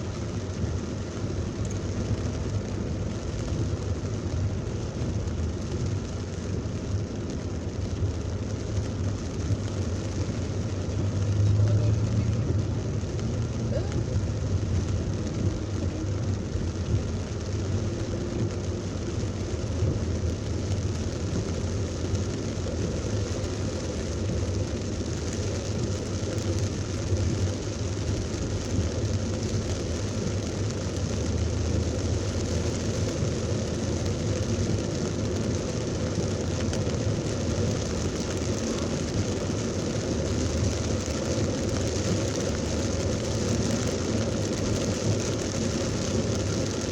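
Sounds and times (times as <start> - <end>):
heavy rain on a car: 0.0 - 46.9
road and engine noise: 0.0 - 46.9.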